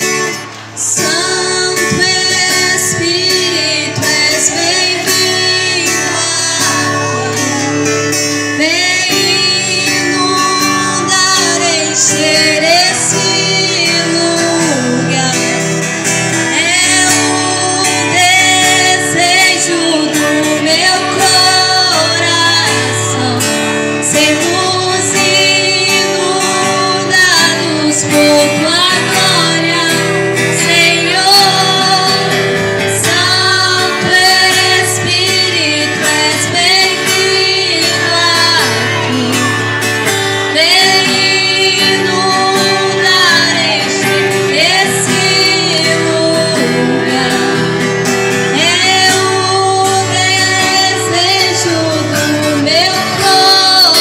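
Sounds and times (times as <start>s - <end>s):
girl singing into microphone: 0.0s - 54.0s
guitar: 0.0s - 54.0s.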